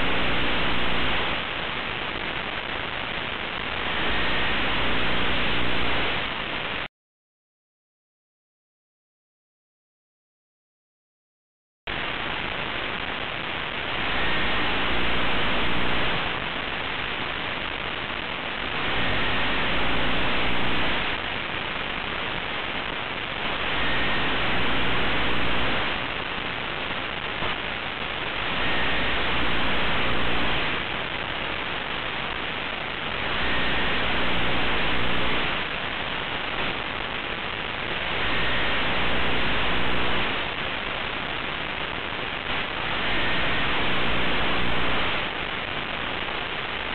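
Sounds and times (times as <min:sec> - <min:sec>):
static-like hiss: 0:00.0 - 0:06.9, 0:11.9 - 0:46.9.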